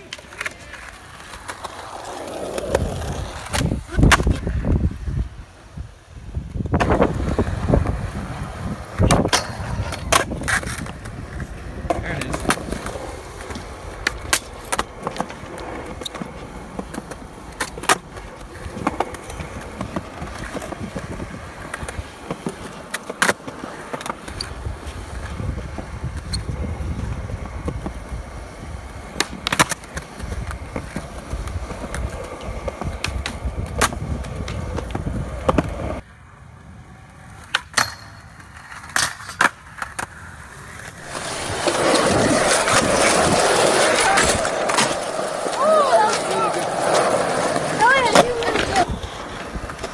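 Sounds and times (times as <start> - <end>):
skateboard clacks: 0.0 - 5.1, 6.4 - 36.1, 36.9 - 49.9
skateboard wheels rolling on concrete: 0.0 - 49.9.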